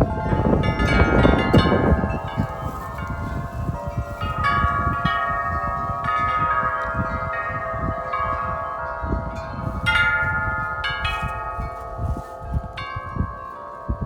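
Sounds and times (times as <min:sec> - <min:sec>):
metal wind chimes clanging: 0:00.0 - 0:14.0
wind rumbling on microphone: 0:00.0 - 0:14.0.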